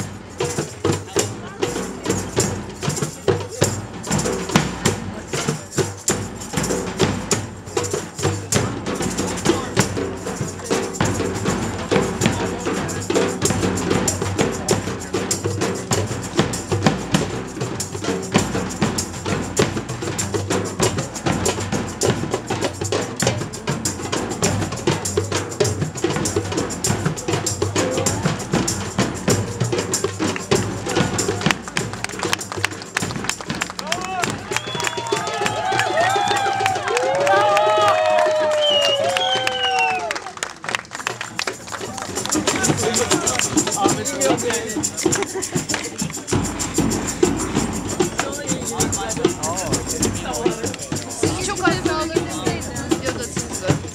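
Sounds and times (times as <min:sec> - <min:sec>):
fast drumming: 0:00.0 - 0:53.9.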